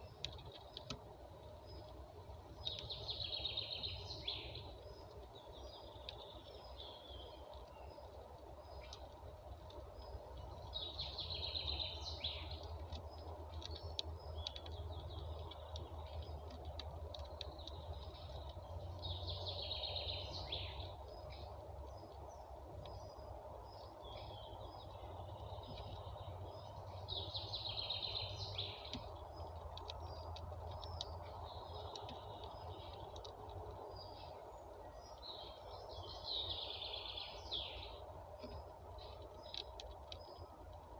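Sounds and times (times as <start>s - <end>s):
low background rumble: 0.0s - 40.9s
songbird singing: 0.0s - 40.9s.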